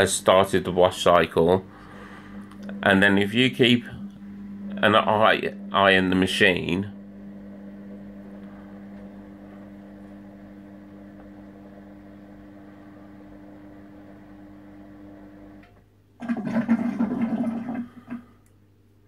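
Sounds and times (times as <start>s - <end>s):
washing machine hum: 0.0s - 19.0s.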